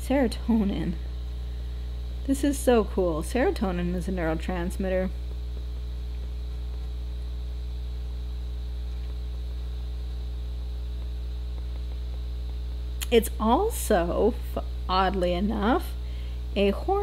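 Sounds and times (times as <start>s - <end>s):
low electrical hum with buzz: 0.0s - 17.0s.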